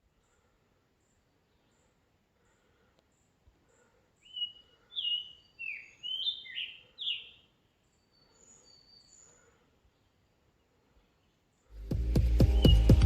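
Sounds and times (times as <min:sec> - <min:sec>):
faint high thin birdsong: 0:00.0 - 0:11.8
songbird singing: 0:00.0 - 0:13.0.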